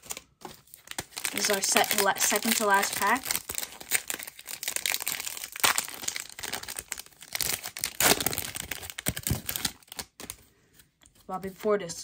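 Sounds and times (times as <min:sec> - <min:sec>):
wrapper crinkling and tearing: 0:00.0 - 0:10.4.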